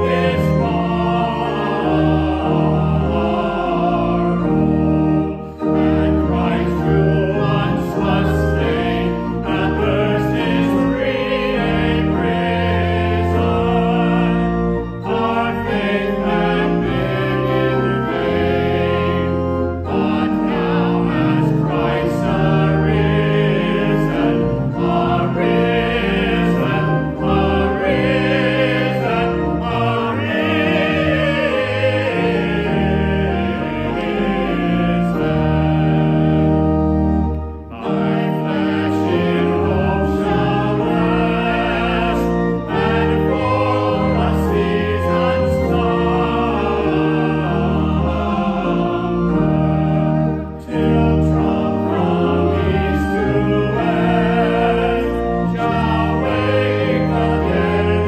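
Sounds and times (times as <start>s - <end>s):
choir singing: 0.0s - 58.0s
sustained low accompaniment: 0.0s - 58.0s.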